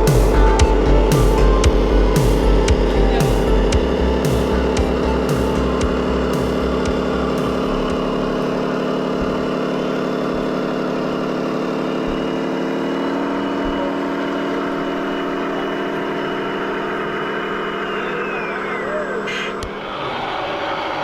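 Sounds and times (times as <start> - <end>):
model vehicle engine hum: 0.0 - 21.0.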